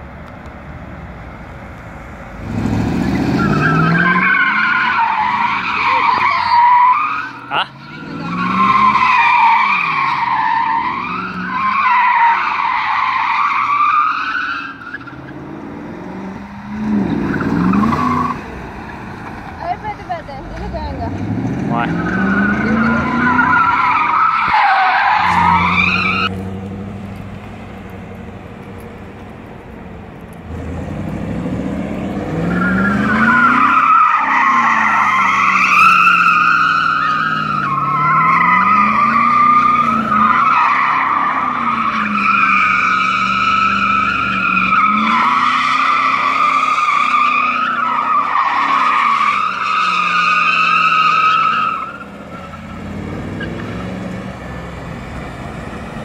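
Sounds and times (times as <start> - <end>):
car engine revving: 0.0 - 13.9, 14.7 - 56.0
tires squealing: 2.3 - 56.0.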